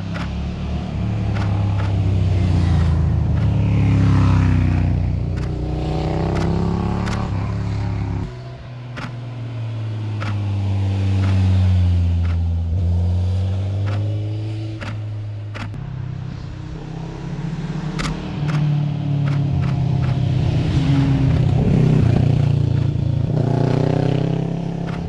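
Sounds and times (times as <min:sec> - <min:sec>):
vehicles passing by: 0:00.0 - 0:25.0.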